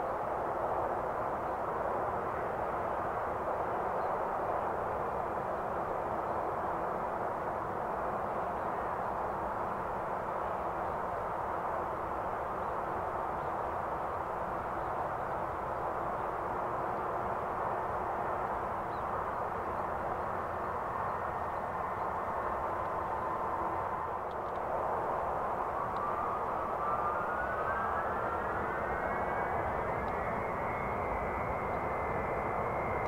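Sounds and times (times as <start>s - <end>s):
distant jet engines rushing: 0.0s - 33.0s
faint engine whine: 0.0s - 33.0s.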